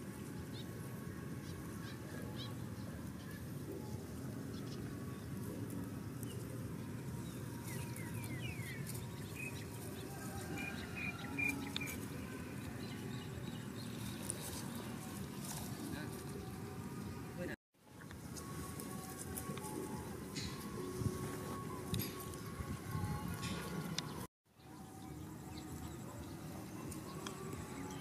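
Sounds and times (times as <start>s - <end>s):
low outdoor background noise: 0.0s - 28.0s.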